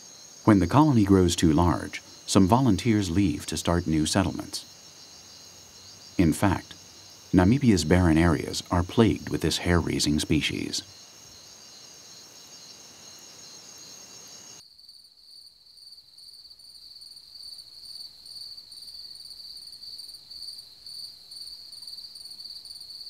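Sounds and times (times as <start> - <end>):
night insects trilling: 0.0 - 23.0.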